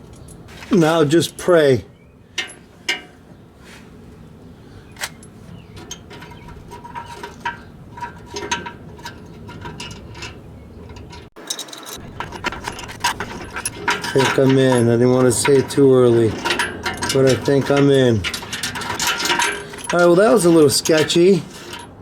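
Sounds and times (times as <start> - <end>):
metallic clicks and scraping: 2.4 - 3.2, 4.9 - 22.0.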